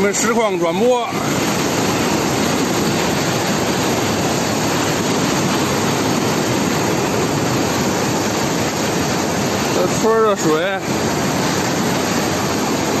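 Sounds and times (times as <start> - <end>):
floodwater rushing down a street: 0.0 - 13.0.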